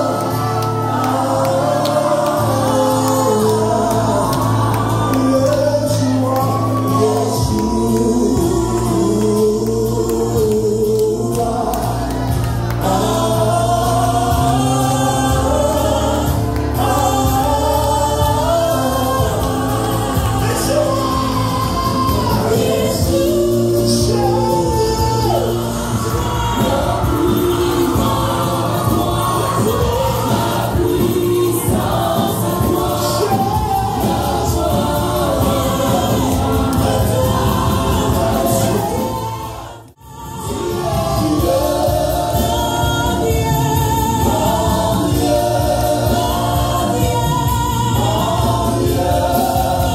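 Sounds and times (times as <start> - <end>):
bass line: 0.0 - 49.9
drums: 0.0 - 49.9
gospel choir singing with band: 0.0 - 49.9.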